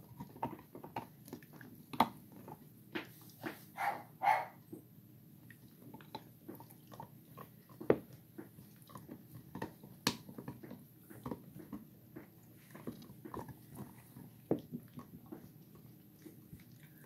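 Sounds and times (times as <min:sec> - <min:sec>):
puppies gnawing on chew bones: 0:00.0 - 0:03.7, 0:04.8 - 0:17.0.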